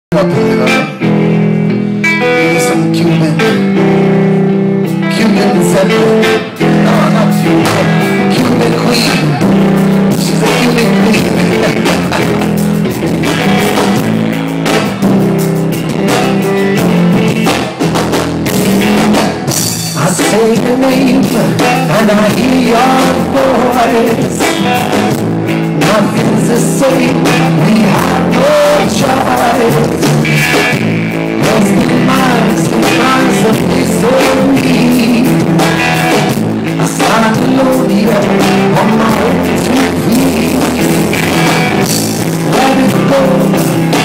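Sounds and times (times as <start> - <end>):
live rock band playing: 0.1 - 44.0.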